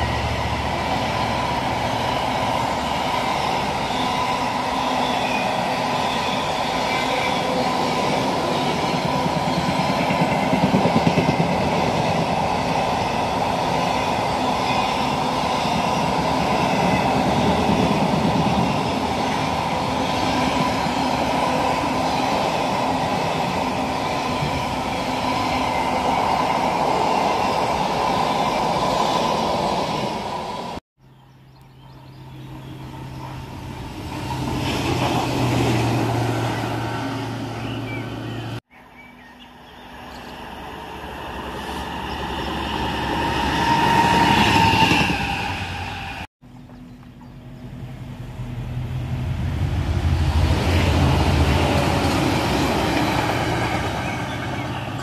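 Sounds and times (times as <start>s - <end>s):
freight train wheels rumbling: 0.0s - 30.8s, 31.9s - 38.6s, 40.3s - 55.0s.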